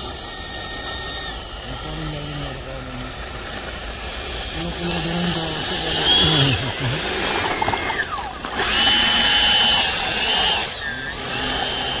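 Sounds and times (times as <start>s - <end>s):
electric ducted fan whining: 0.0s - 12.0s.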